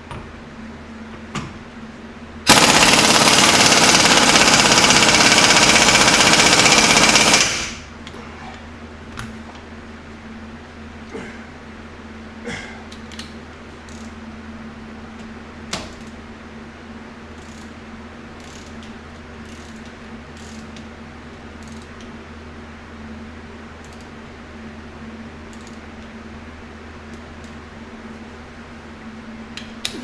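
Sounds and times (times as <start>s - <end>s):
workshop hum: 0.0s - 30.0s.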